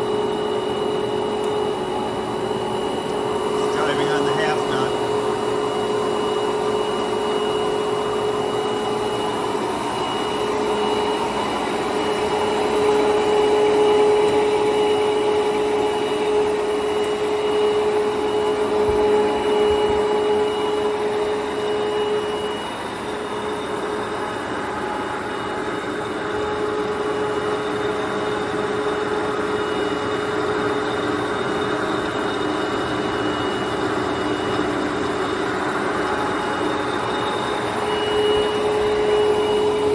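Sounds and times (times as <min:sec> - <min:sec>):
lathe mechanical whine: 0:00.0 - 0:39.9.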